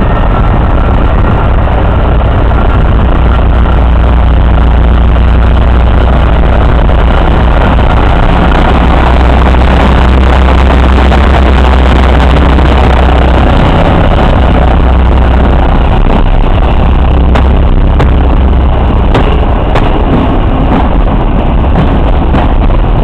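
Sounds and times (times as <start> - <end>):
diesel locomotive engine drone: 0.0 - 23.0
train wheels clicking over rail joints: 0.0 - 23.0.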